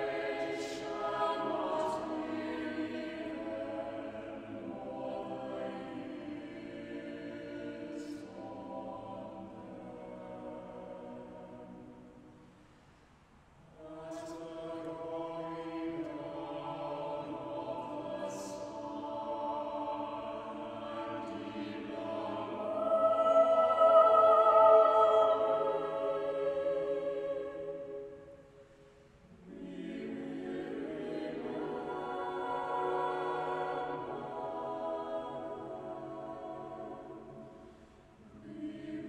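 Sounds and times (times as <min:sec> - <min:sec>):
choir singing: 0:00.0 - 0:12.3, 0:13.6 - 0:28.6, 0:29.2 - 0:39.0.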